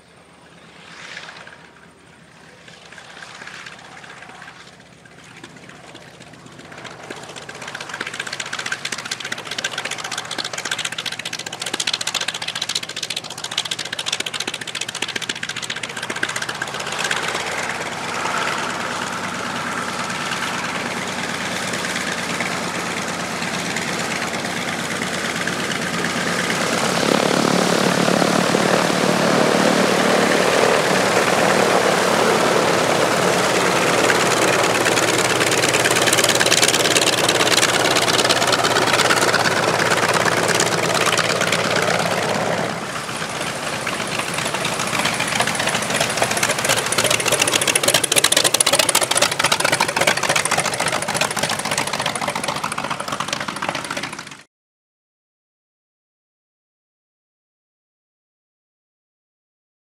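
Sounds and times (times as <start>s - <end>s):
radial piston engine running: 4.2s - 54.4s.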